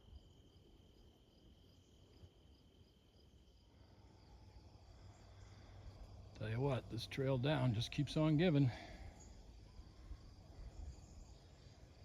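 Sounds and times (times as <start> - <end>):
insect chirping in pulses: 0.0 - 12.0.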